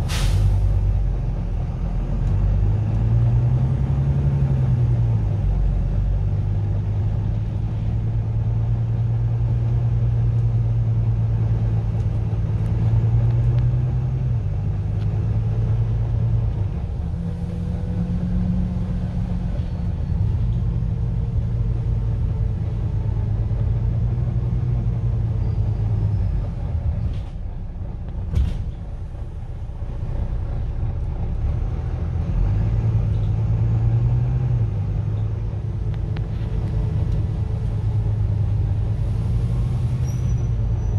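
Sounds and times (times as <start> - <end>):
bus engine hum: 0.0 - 40.9.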